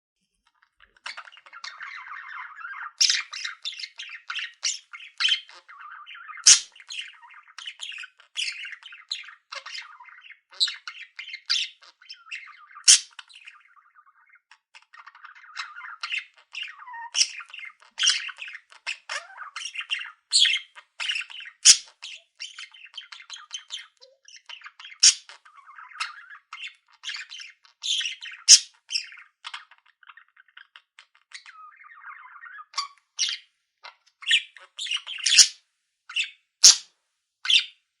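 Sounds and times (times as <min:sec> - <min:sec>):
budgerigars chattering: 0:00.6 - 0:36.8, 0:37.5 - 0:37.7.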